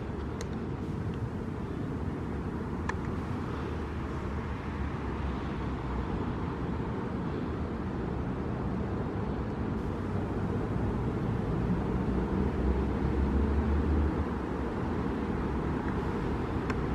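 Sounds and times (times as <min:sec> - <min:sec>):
street traffic rumble: 0:00.0 - 0:16.9.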